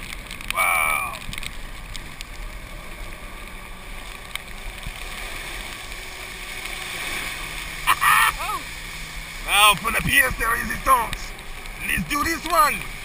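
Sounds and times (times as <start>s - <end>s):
golf cart driving: 0.0s - 13.0s.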